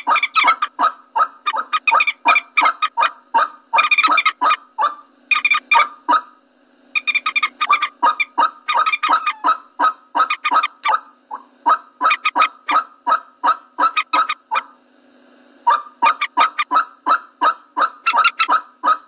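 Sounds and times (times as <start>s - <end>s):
moorhen clucking calls: 0.0s - 6.3s, 7.0s - 14.7s, 15.7s - 19.0s.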